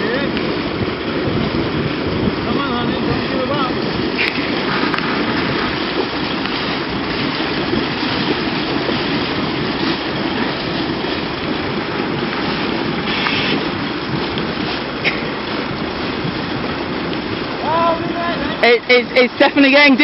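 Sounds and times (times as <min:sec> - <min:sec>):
water rushing and churning: 0:00.0 - 0:20.0.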